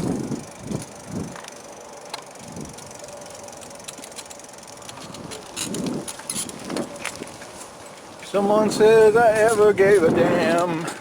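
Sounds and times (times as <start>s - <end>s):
bicycle freewheel ticking: 0.0s - 11.0s
bicycle riding noise: 0.0s - 11.0s.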